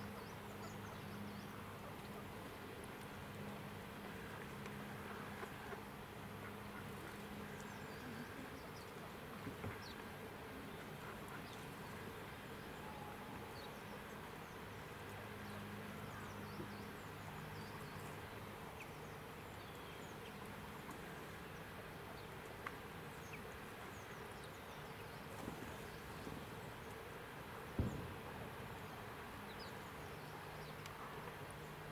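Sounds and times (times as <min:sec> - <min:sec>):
faint outdoor hiss: 0:00.0 - 0:31.9.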